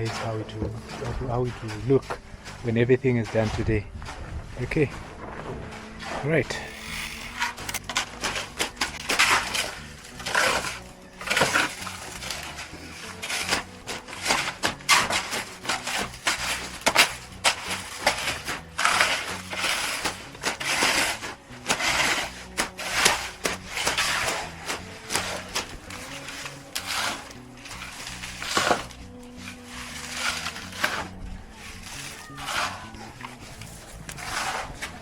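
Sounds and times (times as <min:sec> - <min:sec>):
crunching and scraping in gravel: 0:01.4 - 0:35.0.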